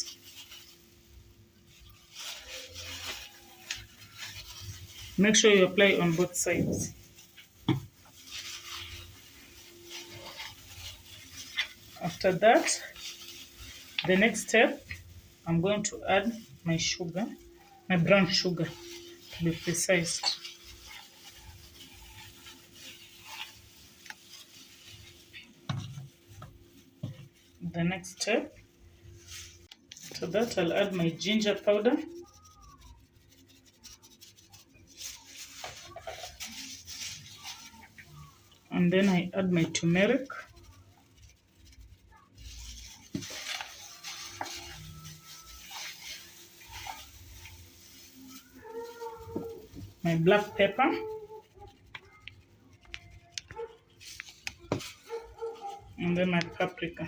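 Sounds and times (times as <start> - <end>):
sugar rubbed onto meat: 0.0 - 57.0.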